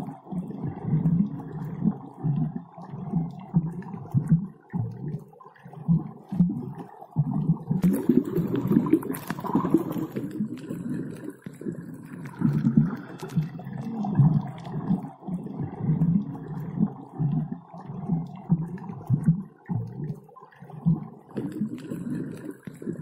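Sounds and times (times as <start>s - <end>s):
water rumbling and gurgling: 0.0s - 23.0s.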